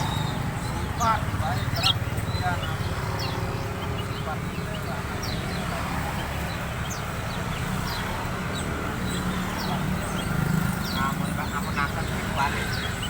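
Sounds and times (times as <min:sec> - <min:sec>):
songbird high sliding chirps: 0:00.0 - 0:13.0.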